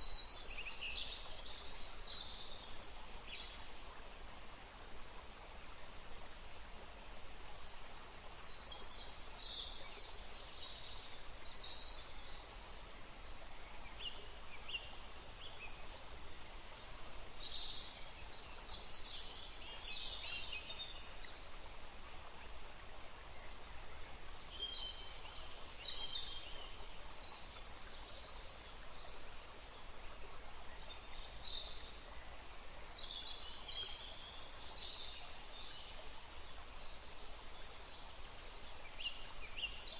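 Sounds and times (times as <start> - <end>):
songbirds chirping: 0.0 - 39.9
wind through trees: 0.0 - 39.9.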